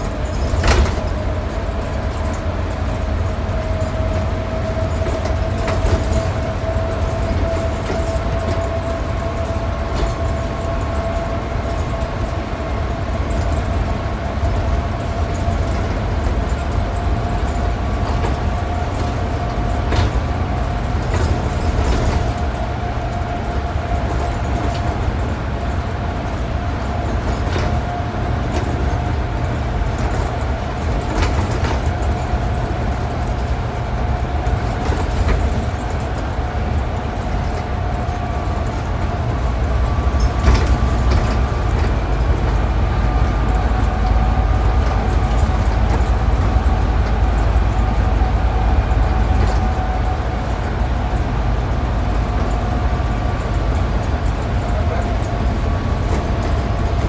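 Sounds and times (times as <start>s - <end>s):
bus body rattles and knocks: 0.0s - 57.0s
bus engine and road drone: 0.0s - 57.0s
steady whine: 0.0s - 57.0s.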